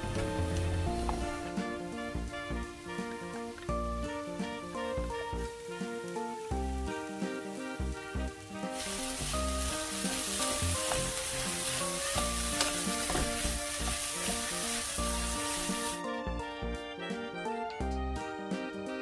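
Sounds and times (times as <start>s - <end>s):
vegetables sizzling in frying pan: 0.0s - 16.0s
background music: 0.0s - 19.0s.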